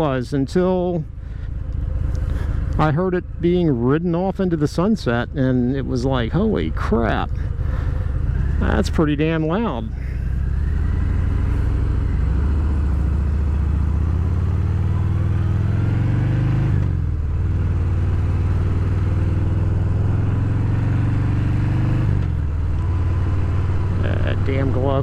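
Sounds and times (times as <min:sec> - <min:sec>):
motorcycle engine rumble: 0:00.0 - 0:25.0.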